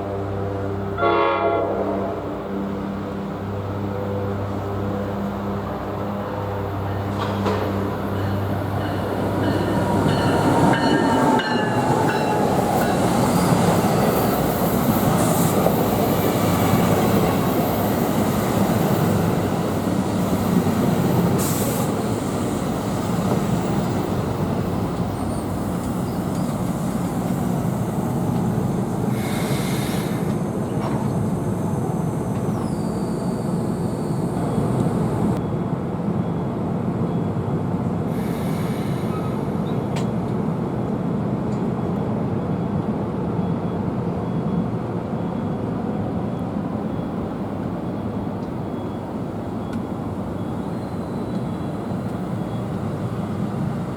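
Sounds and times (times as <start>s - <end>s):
train rumbling along rails: 0.0s - 53.9s.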